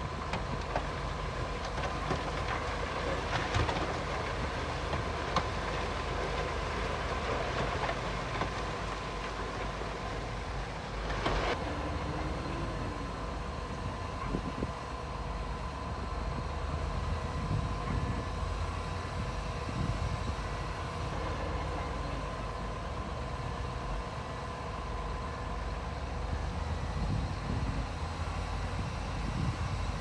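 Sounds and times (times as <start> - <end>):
diesel machinery engine rumble: 0.0 - 30.0
faint constant whine: 0.0 - 30.0.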